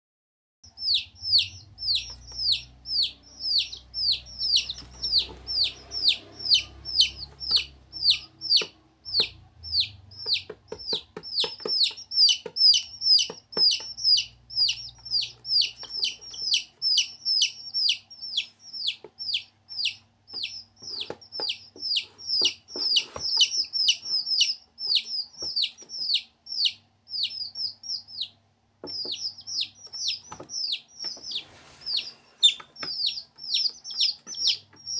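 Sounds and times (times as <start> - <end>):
baby chicks peeping: 0.6 - 34.9.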